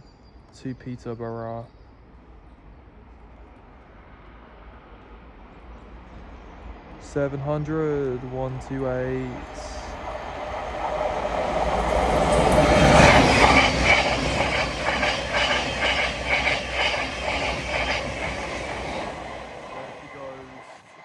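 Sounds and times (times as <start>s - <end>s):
train passing at speed: 1.8s - 21.0s.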